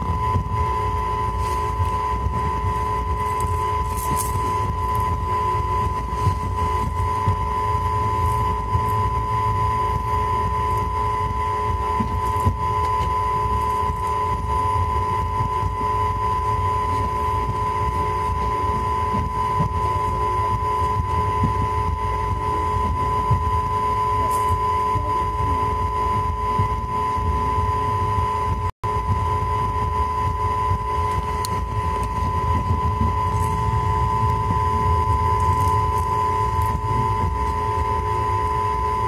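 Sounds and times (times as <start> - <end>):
steady whine: 0.0 - 39.0
wind on microphone: 0.0 - 39.0.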